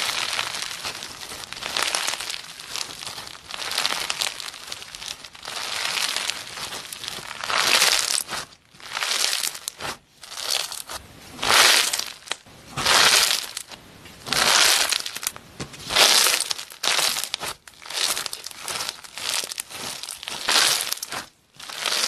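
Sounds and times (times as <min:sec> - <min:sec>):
foam bead slime crackling: 0:00.0 - 0:22.0.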